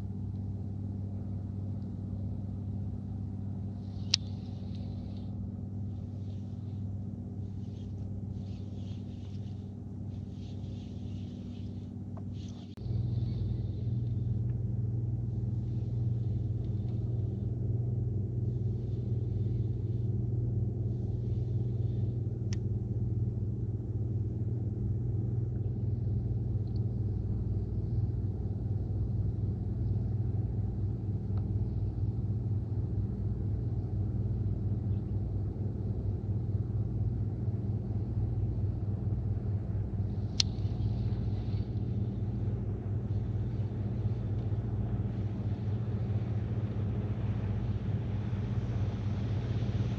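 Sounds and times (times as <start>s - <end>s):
motor running drone: 0.0s - 49.9s.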